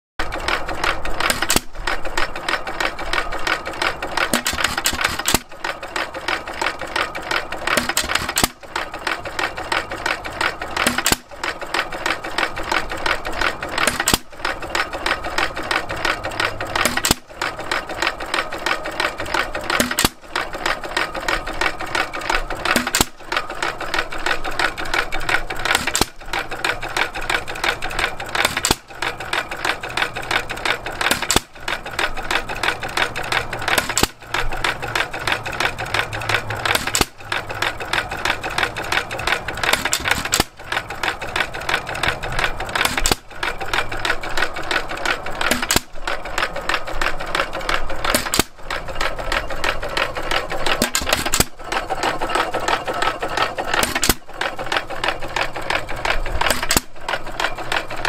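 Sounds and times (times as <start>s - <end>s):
hit-and-miss engine clattering: 0.2s - 58.0s.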